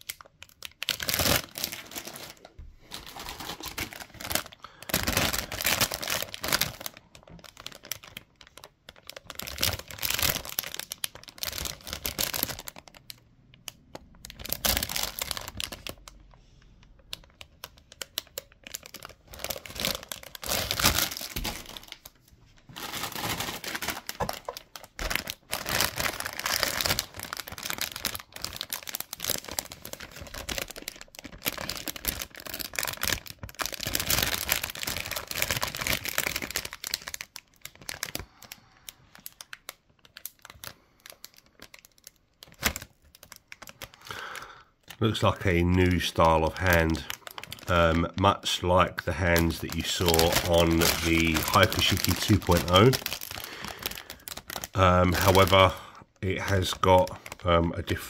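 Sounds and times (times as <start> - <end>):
plastic bags crinkling: 0.0 - 58.0.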